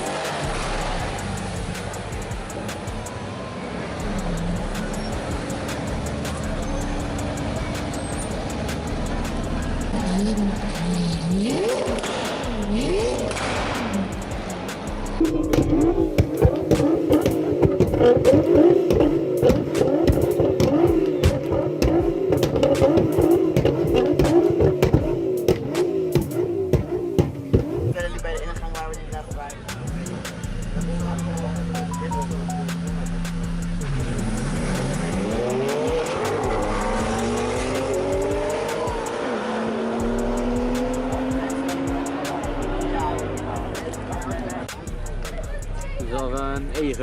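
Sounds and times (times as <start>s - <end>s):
car engine revving hard: 0.0s - 3.1s, 3.7s - 28.1s, 32.7s - 44.8s.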